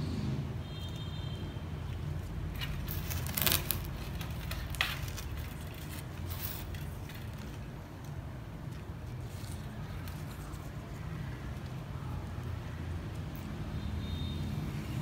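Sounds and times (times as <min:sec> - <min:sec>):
leaves and wire rustling: 0:01.8 - 0:14.8.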